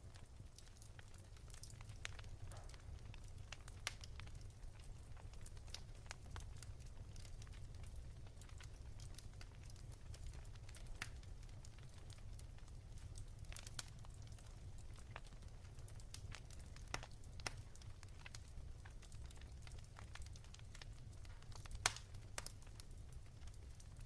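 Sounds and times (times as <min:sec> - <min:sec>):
fire low rumble: 0:00.0 - 0:24.0
wood fire popping and snapping: 0:00.0 - 0:24.0.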